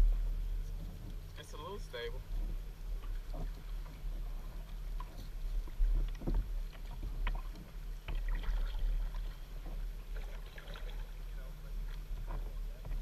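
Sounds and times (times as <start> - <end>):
steady low rumble: 0.0 - 13.0
paddle splashing in water: 0.2 - 13.0.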